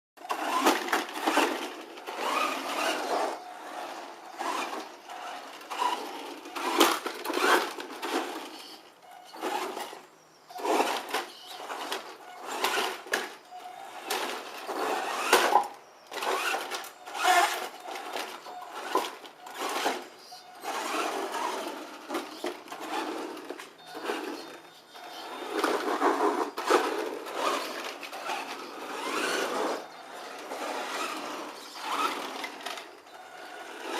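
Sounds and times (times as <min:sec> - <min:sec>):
small motor whirring: 0:00.2 - 0:33.9.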